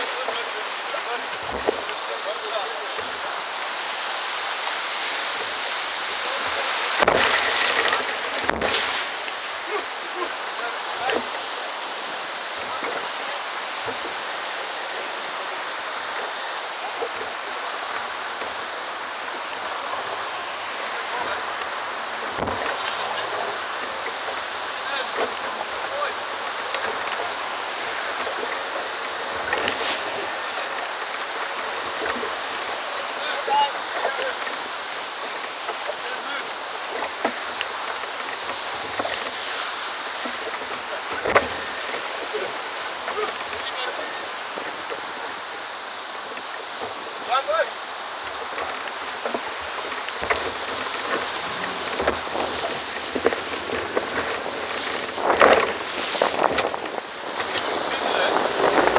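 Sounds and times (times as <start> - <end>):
water rushing past boat: 0.0 - 58.9.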